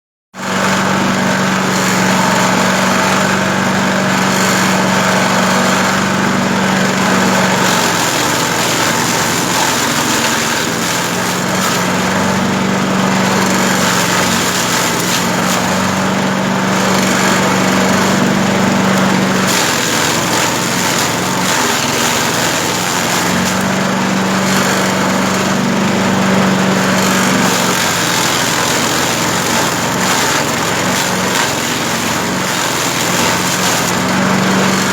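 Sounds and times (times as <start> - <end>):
grass chopper machine droning: 0.4 - 34.9.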